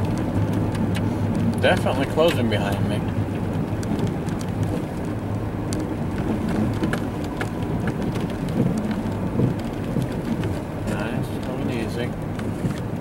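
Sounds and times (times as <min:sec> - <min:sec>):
light ticks: 0:00.0 - 0:12.9
car driving on snow: 0:00.0 - 0:13.0.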